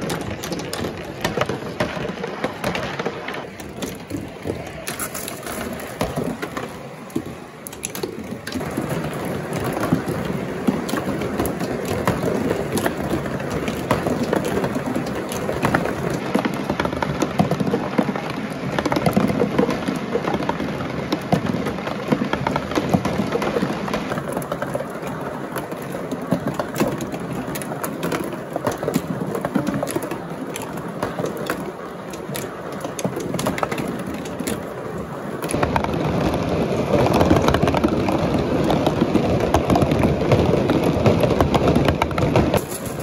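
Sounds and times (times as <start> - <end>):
marbles rolling in cardboard funnel: 0.0 - 43.0.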